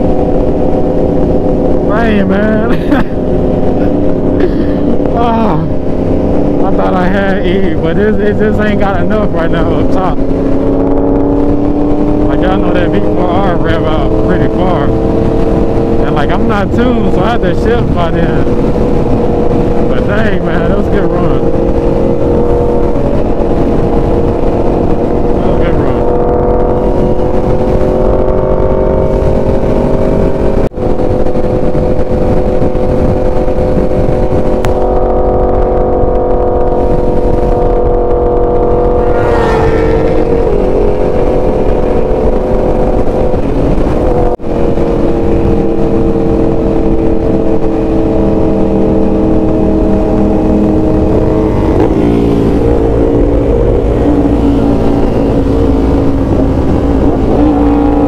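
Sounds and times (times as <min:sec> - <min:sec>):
motorcycle engine cruising: 0:00.0 - 0:58.0
rising whine: 0:00.0 - 0:58.0
wind rush: 0:00.0 - 0:58.0.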